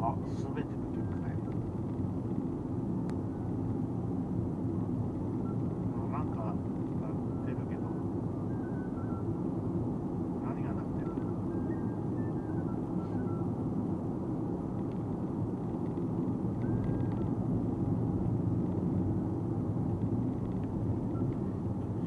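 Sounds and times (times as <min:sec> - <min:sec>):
road and tyre noise in car: 0:00.0 - 0:22.0.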